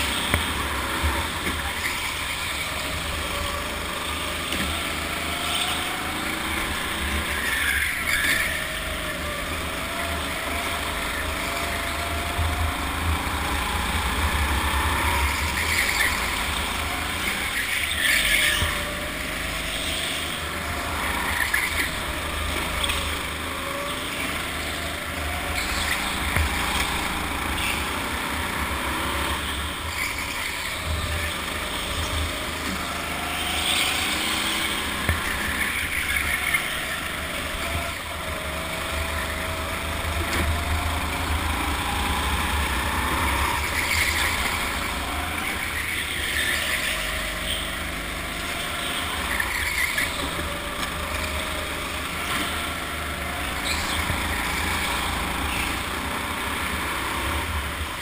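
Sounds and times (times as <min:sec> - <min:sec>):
go-kart motor rising and falling: 0:00.0 - 0:58.0
road noise: 0:00.0 - 0:58.0.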